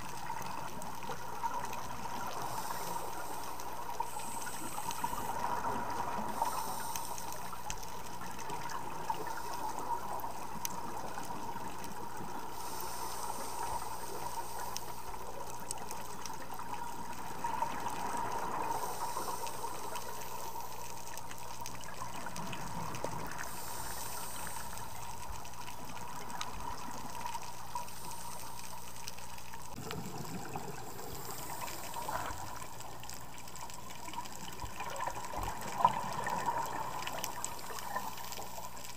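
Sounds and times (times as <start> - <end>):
muffled underwater rush: 0.0 - 38.9
bubbly regulator exhale hiss: 1.5 - 21.2, 21.9 - 38.9.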